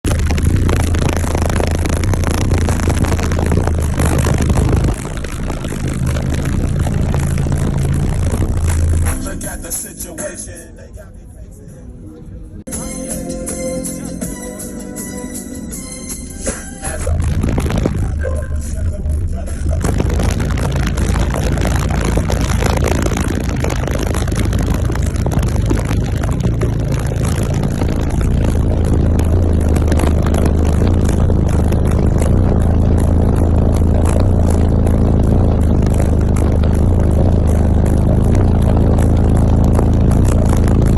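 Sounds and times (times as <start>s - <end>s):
air rushing over microphone: 0.0s - 9.6s, 16.9s - 40.9s
higher bass note: 0.0s - 10.0s, 12.7s - 40.9s
subwoofer deep bass tone: 0.0s - 12.0s, 12.6s - 40.9s.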